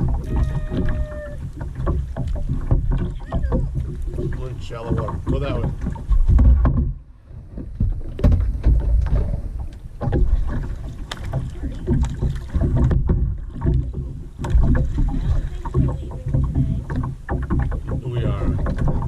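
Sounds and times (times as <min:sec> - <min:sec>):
sharp knocks: 0:00.0 - 0:07.0, 0:07.6 - 0:10.4, 0:11.2 - 0:19.0
paddle strokes in water: 0:00.0 - 0:19.0.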